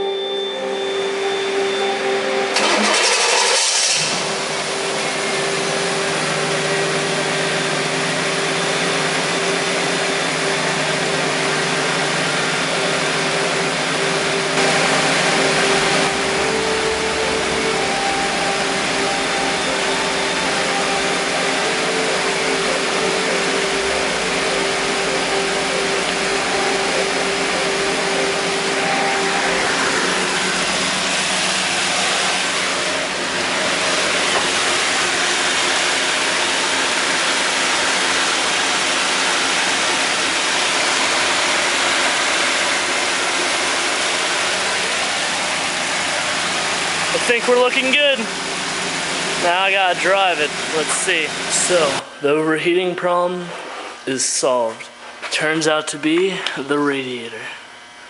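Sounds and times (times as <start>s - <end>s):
car engine idling: 0.6s - 52.0s.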